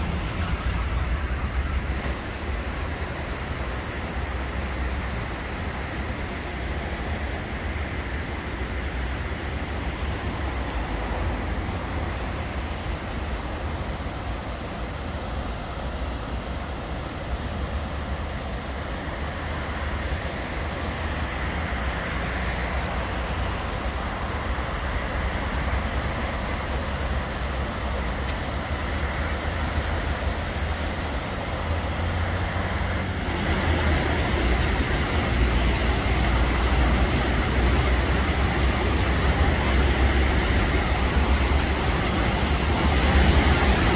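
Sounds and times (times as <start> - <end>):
road traffic noise: 0.0 - 43.9.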